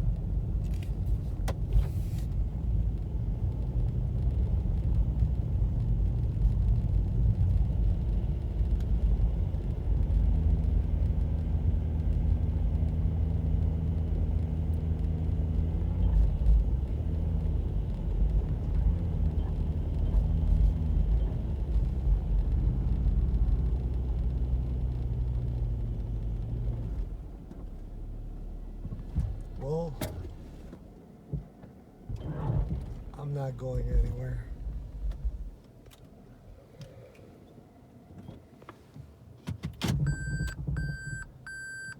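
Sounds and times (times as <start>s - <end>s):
car engine from inside cabin: 0.0s - 41.9s.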